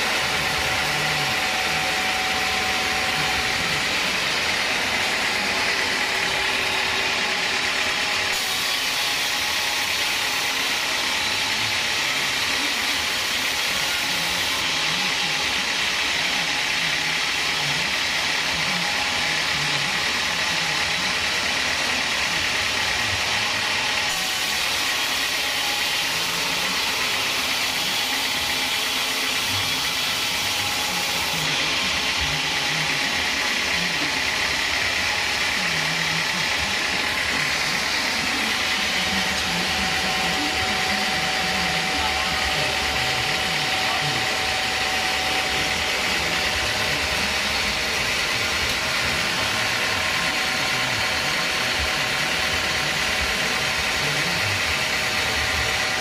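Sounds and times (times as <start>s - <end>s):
band saw blade cutting log: 0.0s - 19.2s, 20.1s - 54.0s
engine drone: 0.0s - 56.0s.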